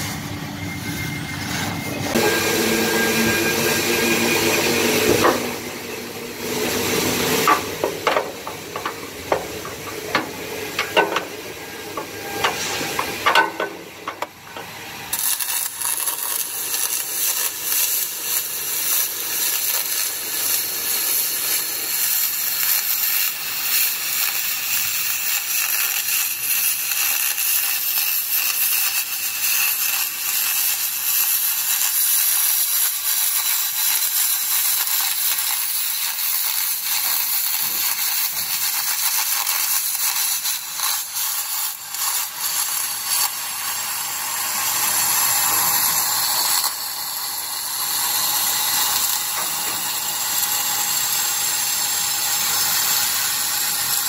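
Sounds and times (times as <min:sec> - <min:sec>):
welding arc hissing and crackling: 0:00.0 - 0:54.0.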